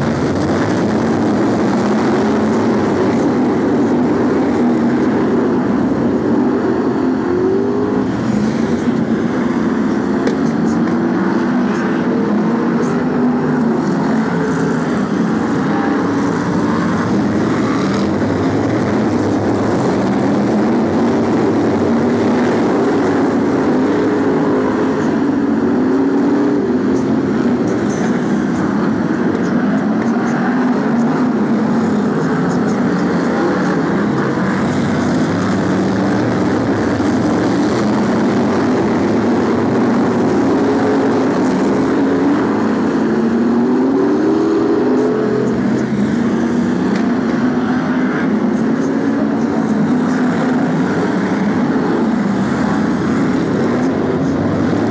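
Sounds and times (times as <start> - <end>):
racing car engines: 0.0 - 54.9.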